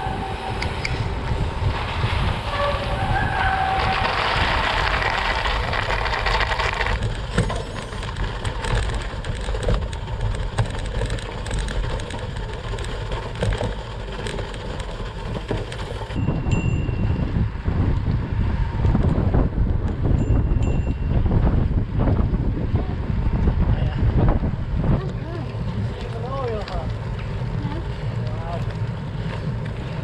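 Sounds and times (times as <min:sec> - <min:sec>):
bike tyres rumbling on snow: 0:00.0 - 0:30.0
wind buffeting microphone: 0:00.0 - 0:30.0.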